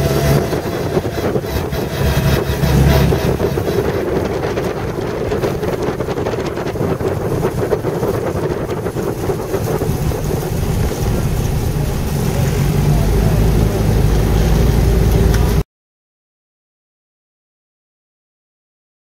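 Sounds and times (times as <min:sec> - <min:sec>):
car engine rumbling: 0:00.0 - 0:15.6.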